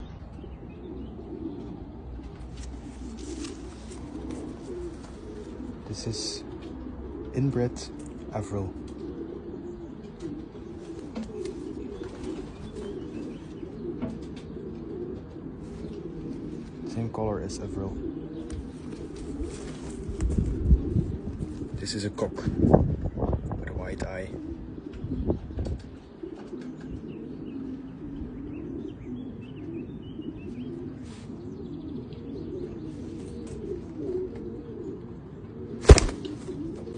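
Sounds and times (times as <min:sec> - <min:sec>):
pigeons cooing: 0:00.0 - 0:36.9.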